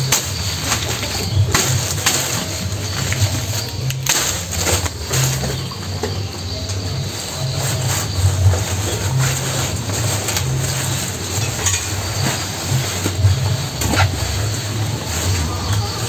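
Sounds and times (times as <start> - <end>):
cattle crunching grass: 0.0 - 16.0
steady low rumble: 0.0 - 16.0.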